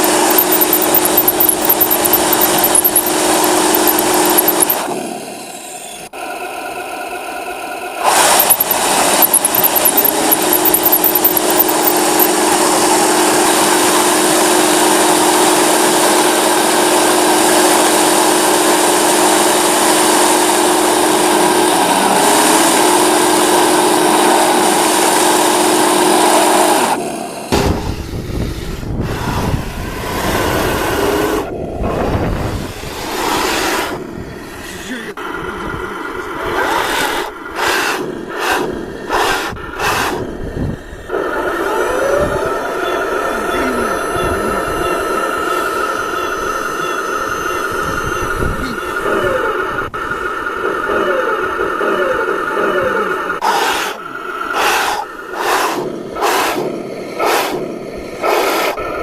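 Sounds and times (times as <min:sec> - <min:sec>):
loud grinding noise: 0:00.0 - 0:59.0
model tank motor whine: 0:00.0 - 0:59.0.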